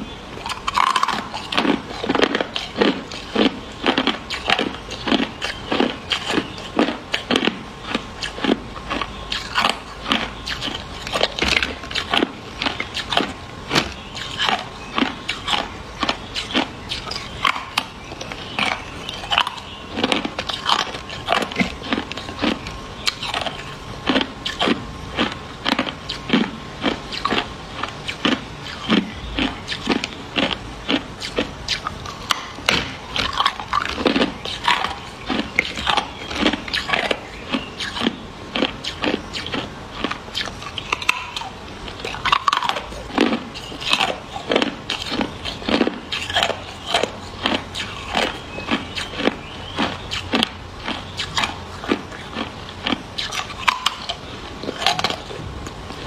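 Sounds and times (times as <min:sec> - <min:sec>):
ice being bitten and chewed: 0:00.0 - 0:56.0.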